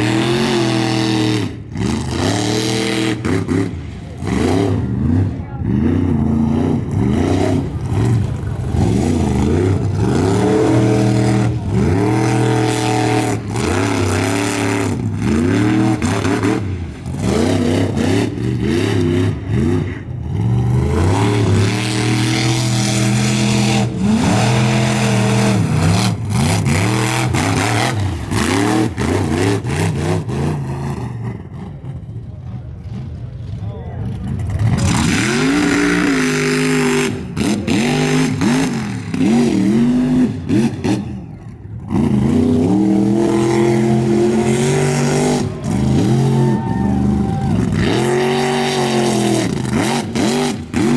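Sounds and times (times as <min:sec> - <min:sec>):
truck engine revving hard: 0:00.0 - 0:50.9.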